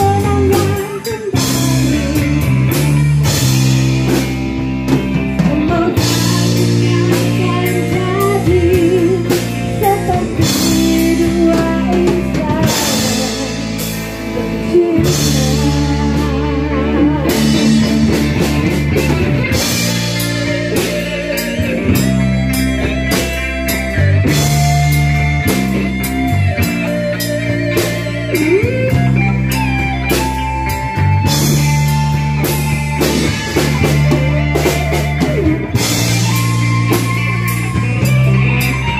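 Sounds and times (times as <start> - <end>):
drum kit: 0.0 - 38.9
electric bass: 0.0 - 38.9
electric guitars: 0.0 - 38.9.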